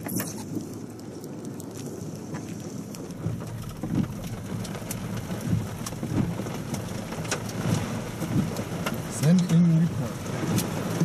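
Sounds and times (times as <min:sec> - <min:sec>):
hailstones tapping: 0:00.0 - 0:11.0
heavy rain falling: 0:00.0 - 0:11.0
low uneven rumble: 0:00.0 - 0:11.0.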